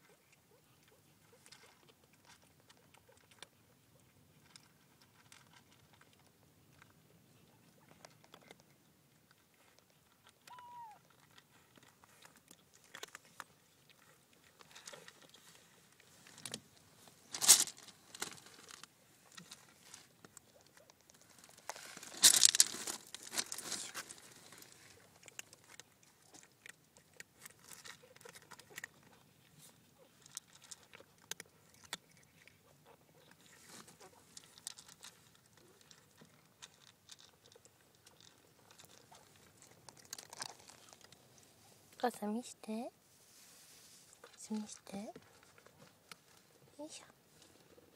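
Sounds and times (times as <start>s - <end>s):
cats crunching dry kibble: 0.0s - 42.6s, 43.3s - 47.9s.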